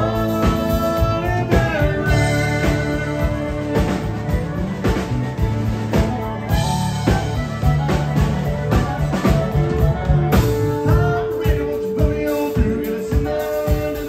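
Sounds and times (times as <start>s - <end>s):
country-rock band playing: 0.0s - 14.0s
drum kit steady beat: 0.0s - 14.0s
fiddle: 0.0s - 14.0s.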